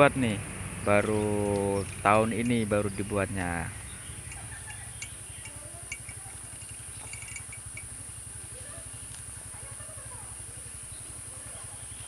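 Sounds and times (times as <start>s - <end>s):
insects droning high-pitched: 0.0s - 12.0s.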